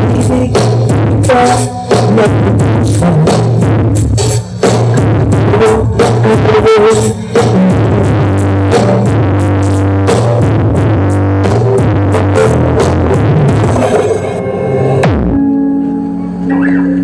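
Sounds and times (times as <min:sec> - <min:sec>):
loud dance music: 0:00.0 - 0:14.4.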